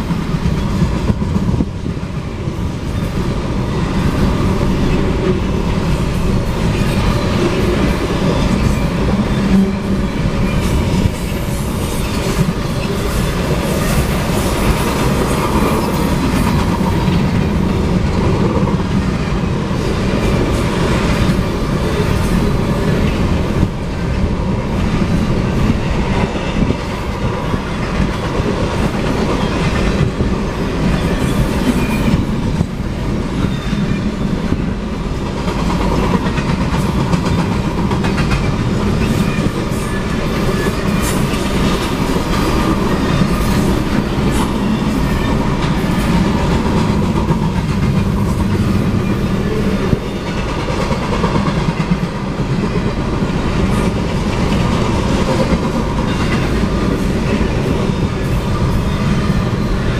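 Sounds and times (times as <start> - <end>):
freight train rumbling past: 0.0 - 59.9
wheels clicking over rail joints: 2.8 - 59.8.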